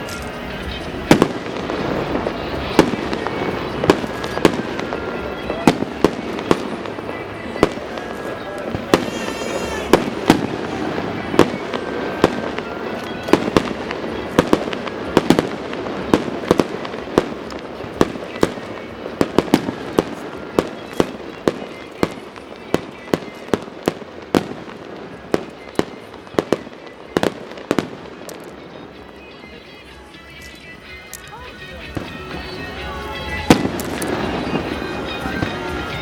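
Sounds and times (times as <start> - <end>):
fireworks bangs: 0.0 - 36.0
fireworks crackle: 0.0 - 36.0.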